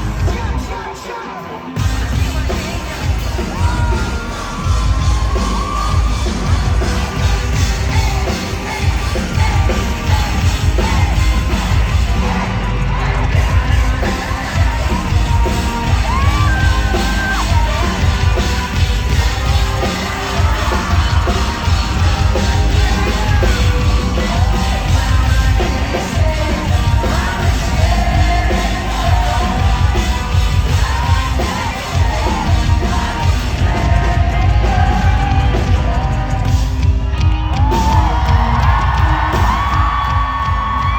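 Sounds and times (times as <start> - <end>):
crowd noise: 0.0 - 40.9
live rock band playing: 0.0 - 40.9
singer yelling and singing: 0.0 - 40.9.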